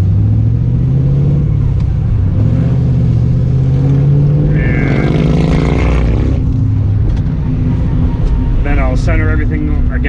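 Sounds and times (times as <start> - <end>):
car engine revving drone: 0.0 - 10.0.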